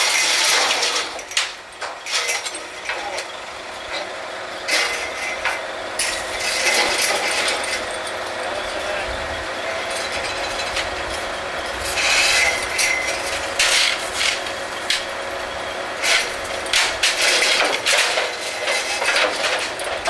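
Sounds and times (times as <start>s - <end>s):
metal clanks and scraping: 0.0s - 3.3s, 4.7s - 9.0s, 9.7s - 15.2s, 16.0s - 20.0s
rig machinery running: 0.0s - 20.0s.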